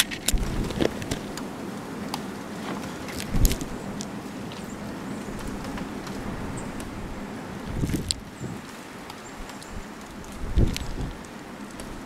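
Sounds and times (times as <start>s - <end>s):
birds ticking and clicking: 0.0s - 12.0s.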